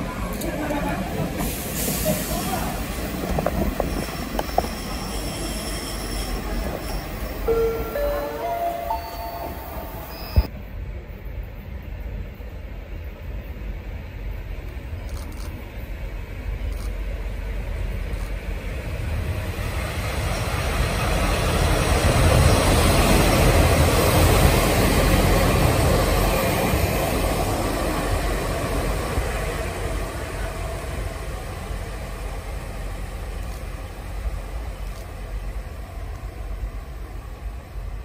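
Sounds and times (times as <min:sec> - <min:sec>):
diesel train rumbling past: 0:00.0 - 0:15.0, 0:15.6 - 0:38.0.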